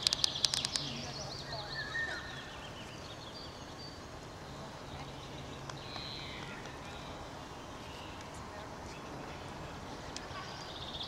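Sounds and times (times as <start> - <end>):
low background noise: 0.0 - 11.0
small birds chirping and trilling: 0.0 - 11.0.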